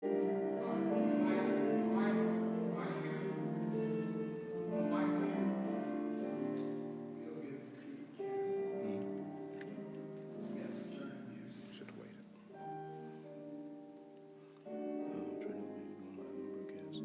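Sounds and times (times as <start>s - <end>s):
slow sustained instrumental chords: 0.0s - 17.0s.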